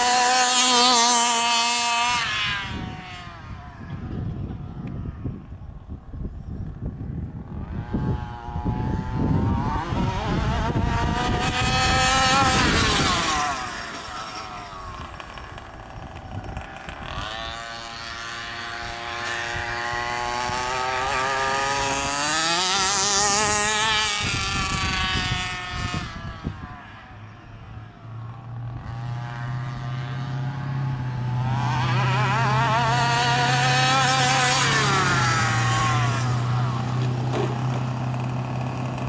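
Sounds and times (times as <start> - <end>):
two-stroke engine revving: 0.0 - 3.9, 7.4 - 39.0.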